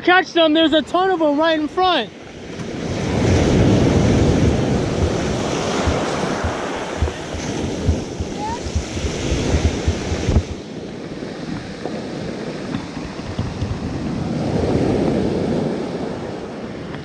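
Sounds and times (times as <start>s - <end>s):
ocean surf breaking: 0.0s - 17.0s
wind buffeting microphone: 2.2s - 17.0s.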